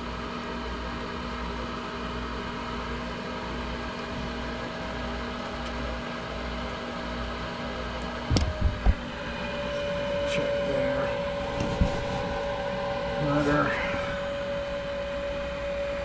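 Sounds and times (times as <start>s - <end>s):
furnace inducer motor humming: 0.0s - 16.0s.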